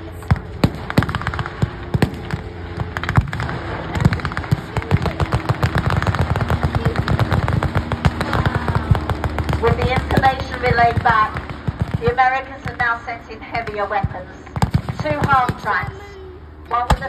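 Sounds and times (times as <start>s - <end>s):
machine-gun and rifle fire: 0.0s - 15.8s
light aircraft engines droning: 0.0s - 17.0s.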